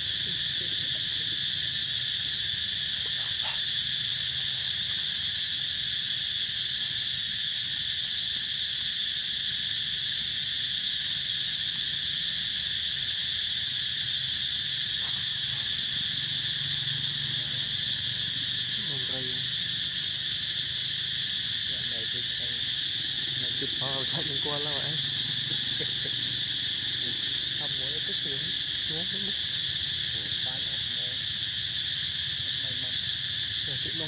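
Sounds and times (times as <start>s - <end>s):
insects shrilling: 0.0s - 34.0s.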